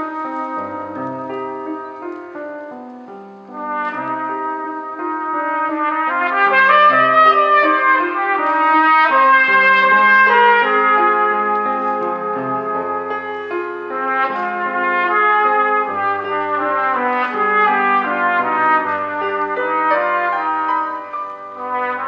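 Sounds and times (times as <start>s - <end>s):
cornet solo melody: 0.0s - 22.0s
piano accompaniment: 0.0s - 22.0s.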